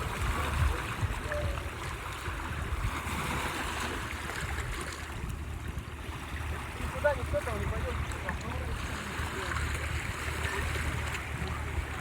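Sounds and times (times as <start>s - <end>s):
sea surf washing in: 0.0s - 12.0s
wind rumbling on microphone: 0.0s - 12.0s.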